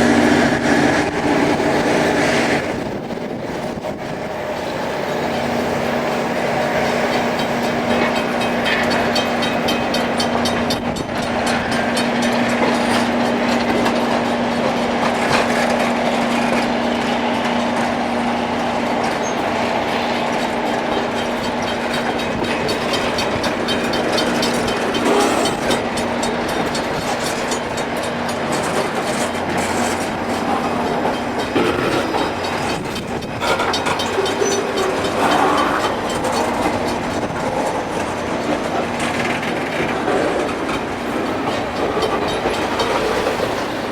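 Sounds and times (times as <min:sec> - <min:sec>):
rail grinding machine grinding: 0:00.0 - 0:43.9.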